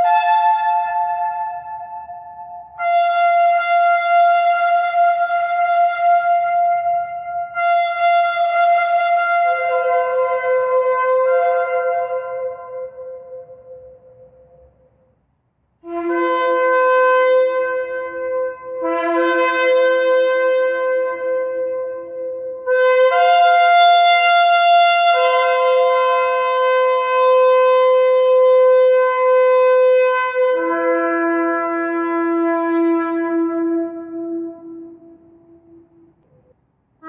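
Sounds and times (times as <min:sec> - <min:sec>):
shofar blasts: 0:00.0 - 0:14.6, 0:15.8 - 0:36.2.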